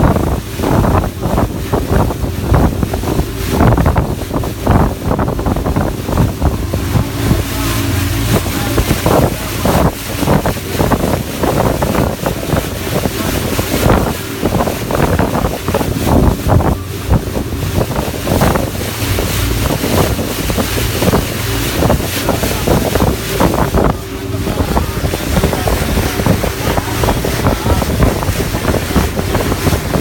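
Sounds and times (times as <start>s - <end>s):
sea waves rushing: 0.0s - 30.0s
wind buffeting microphone: 0.0s - 30.0s.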